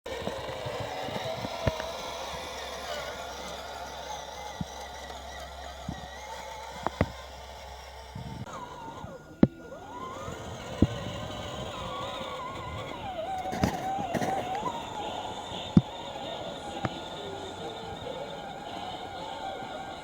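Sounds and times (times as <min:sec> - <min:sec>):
clicks and knocks from wheels: 0:00.1 - 0:20.0
electric motor whining: 0:00.1 - 0:20.0.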